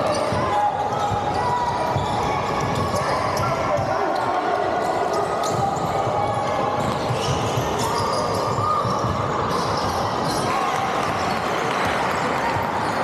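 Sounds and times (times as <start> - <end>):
shoe squeaks: 0.0 - 10.7.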